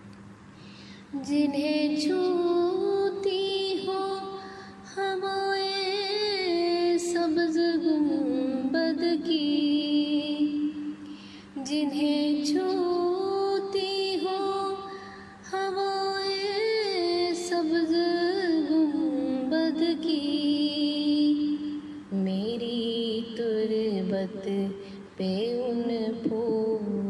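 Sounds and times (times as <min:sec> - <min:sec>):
woman singing devotional song: 0:00.6 - 0:27.0.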